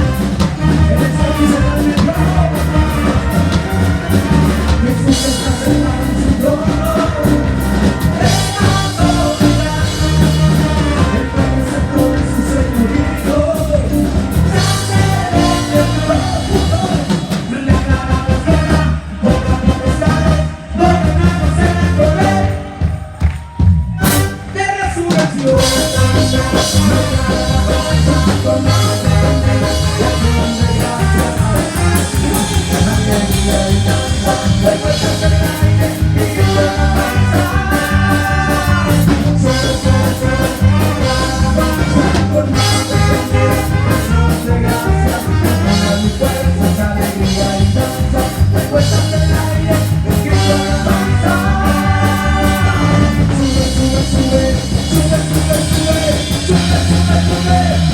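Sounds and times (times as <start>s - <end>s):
live band music: 0.0s - 57.9s
person singing lead vocals: 0.0s - 57.9s.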